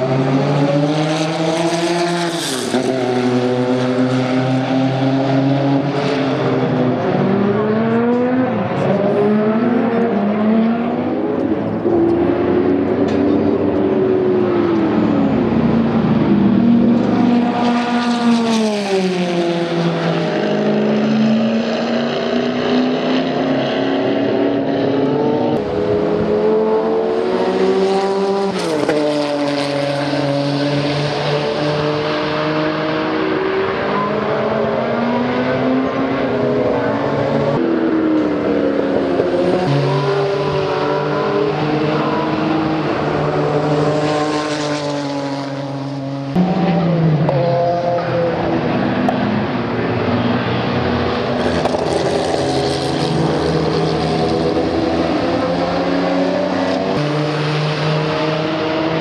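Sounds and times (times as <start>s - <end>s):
race car engine passing: 0.0s - 59.0s.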